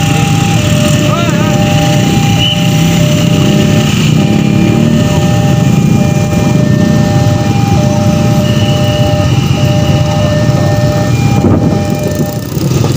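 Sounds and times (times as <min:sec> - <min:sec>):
electronic warning tones: 0:00.0 - 0:12.9
motorcycle engines idling and revving: 0:00.0 - 0:12.9.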